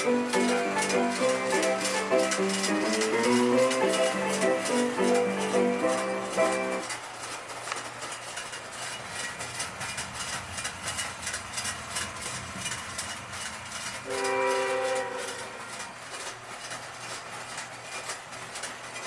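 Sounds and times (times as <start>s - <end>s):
toy train wheels clicking: 0.0s - 19.0s.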